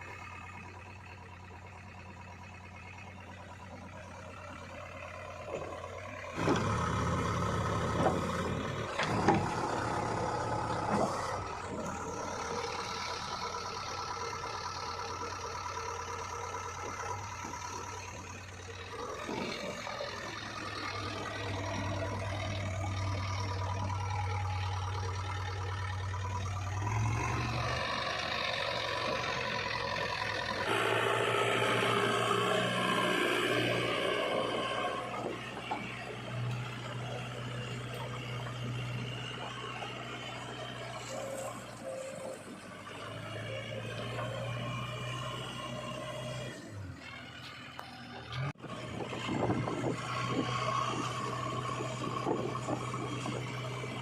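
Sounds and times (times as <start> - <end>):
backhoe diesel engine running: 0.0 - 54.0.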